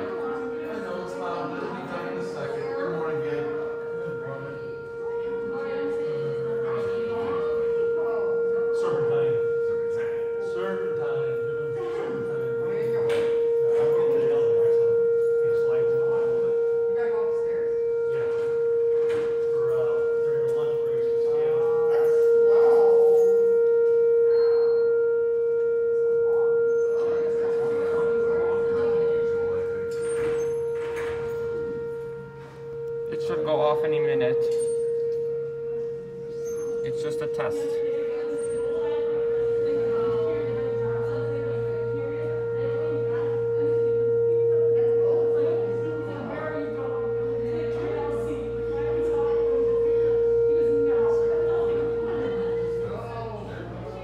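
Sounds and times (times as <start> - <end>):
tornado siren steady tone: 0.0 - 54.0.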